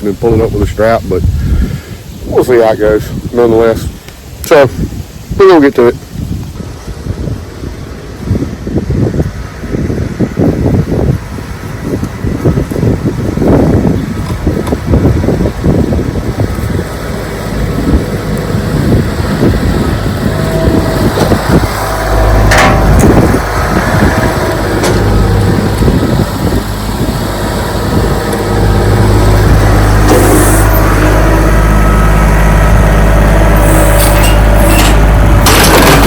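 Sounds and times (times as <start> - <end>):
wind buffeting microphone: 0.0 - 36.0
tractor engine humming: 6.0 - 36.0.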